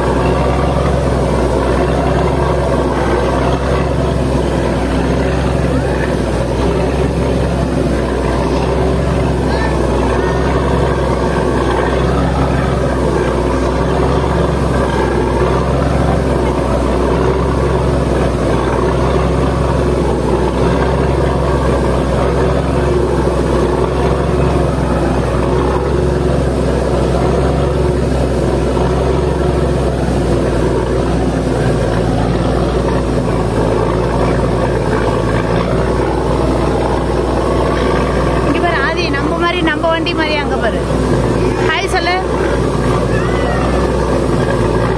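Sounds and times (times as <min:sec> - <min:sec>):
boat engine humming: 0:00.0 - 0:44.9
water rushing along hull: 0:00.0 - 0:44.9.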